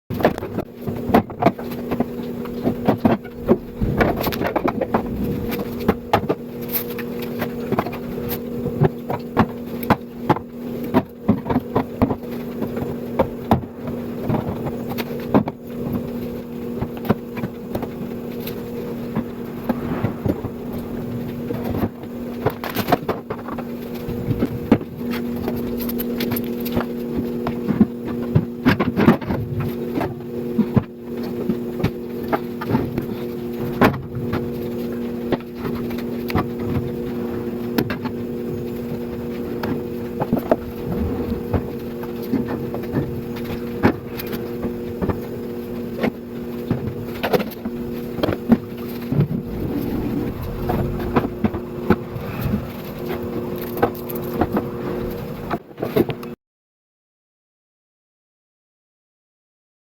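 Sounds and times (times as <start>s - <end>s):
steady mechanical hum: 0.1s - 56.4s.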